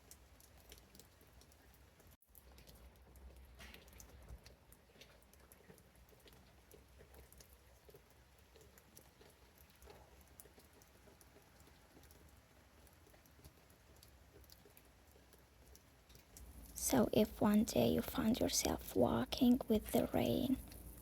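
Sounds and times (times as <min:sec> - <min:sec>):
rain dripping and pattering: 0:00.0 - 0:21.0.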